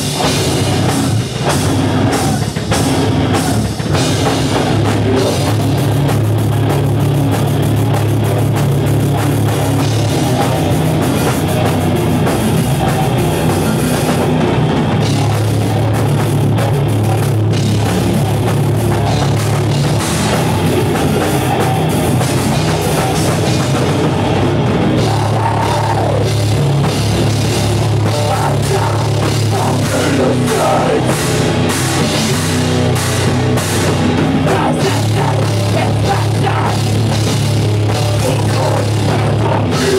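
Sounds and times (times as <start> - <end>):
distorted guitars and bass: 0.0 - 39.9
fast drum-kit hits: 0.0 - 39.9.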